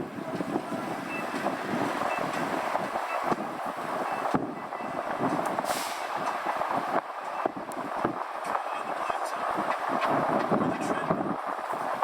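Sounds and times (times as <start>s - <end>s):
road and tyre noise: 0.0s - 12.0s.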